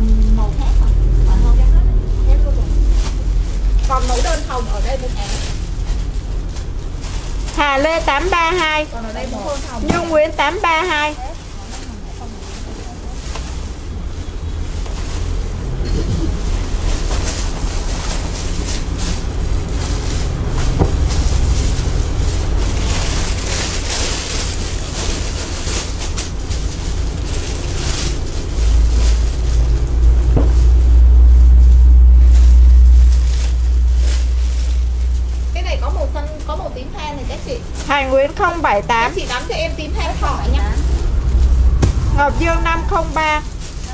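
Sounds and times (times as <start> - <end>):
plastic wrapping crinkling: 0.0 - 15.8, 16.4 - 43.9
loud low rumble: 0.0 - 43.9.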